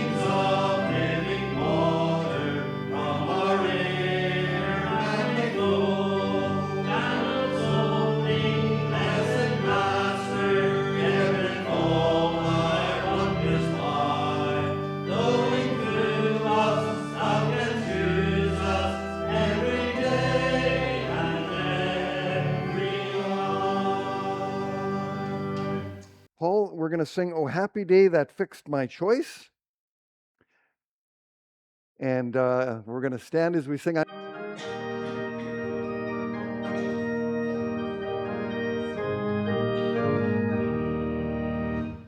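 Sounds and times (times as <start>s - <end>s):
choir singing a hymn: 0.0s - 26.0s, 34.4s - 42.0s
sustained instrumental accompaniment: 0.0s - 26.2s, 34.0s - 42.0s.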